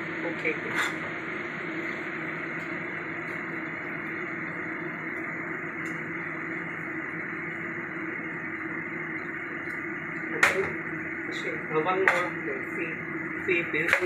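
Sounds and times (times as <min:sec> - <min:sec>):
steady machine hum and hiss: 0:00.0 - 0:14.0.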